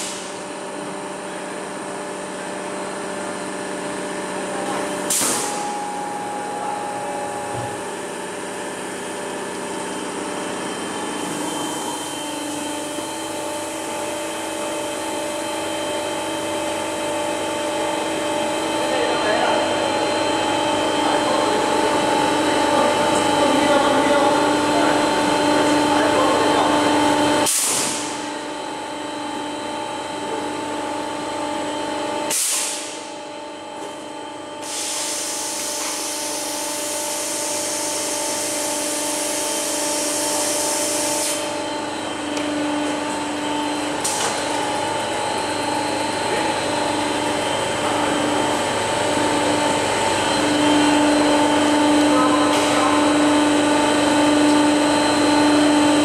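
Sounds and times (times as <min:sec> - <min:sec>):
machinery motor hum and whine: 0:00.0 - 0:56.0.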